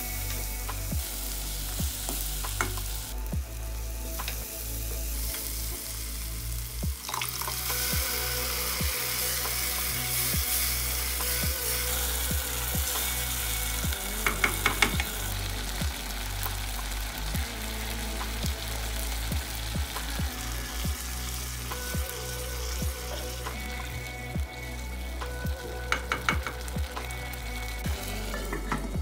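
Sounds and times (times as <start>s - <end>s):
sauce sizzling and bubbling: 0.0s - 29.0s.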